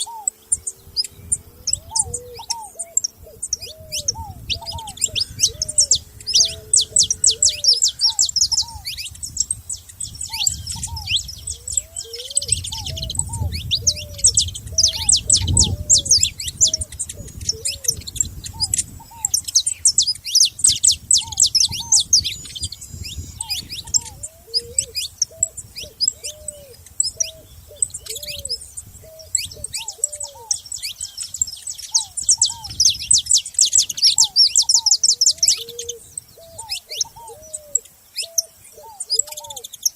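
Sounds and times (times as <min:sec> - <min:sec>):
finches chirping rapidly: 0:00.0 - 0:39.9
lower curving bird calls: 0:00.0 - 0:39.9.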